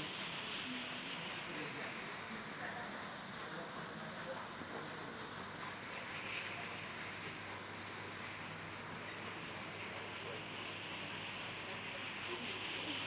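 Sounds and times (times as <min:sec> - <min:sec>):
constant hiss: 0:00.0 - 0:13.0
insects chirring: 0:00.0 - 0:13.0.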